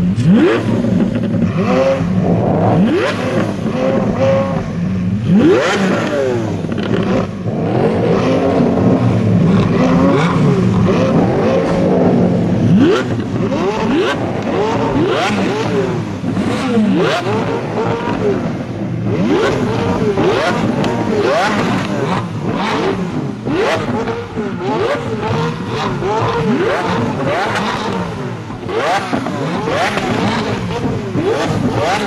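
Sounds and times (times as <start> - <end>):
car engines revving: 0.0 - 32.0
exhaust cracks: 0.0 - 32.0.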